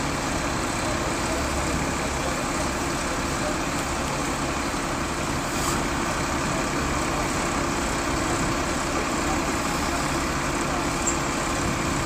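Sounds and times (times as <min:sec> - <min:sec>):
bus engine idling: 0:00.0 - 0:12.0
city traffic noise: 0:00.0 - 0:12.0.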